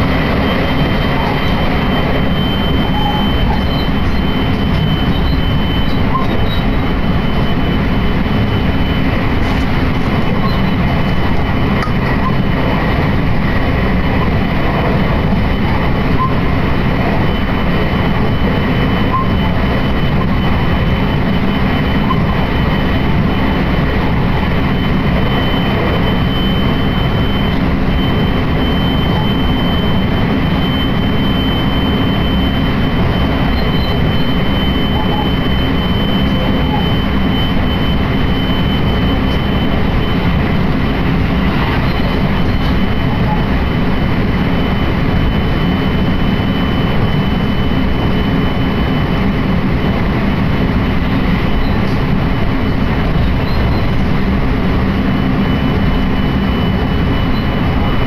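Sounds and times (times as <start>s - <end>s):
thin high whine: 0.0s - 58.0s.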